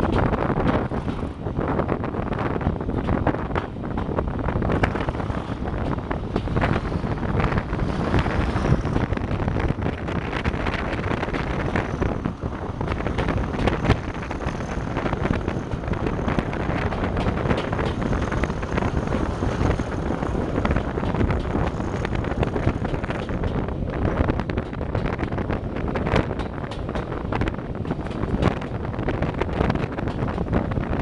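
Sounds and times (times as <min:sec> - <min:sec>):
diesel locomotive running: 0:00.0 - 0:31.0
wind buffeting microphone: 0:00.0 - 0:31.0.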